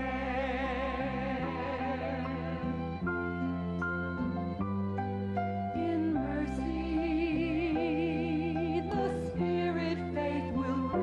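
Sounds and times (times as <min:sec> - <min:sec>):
slow held chords: 0:00.0 - 0:11.0.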